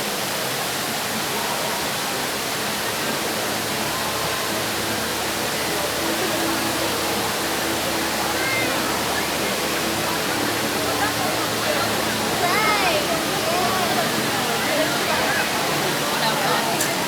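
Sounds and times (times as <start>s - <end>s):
faint crowd voices: 0.0s - 17.0s
indoor waterfall pouring: 0.0s - 17.0s.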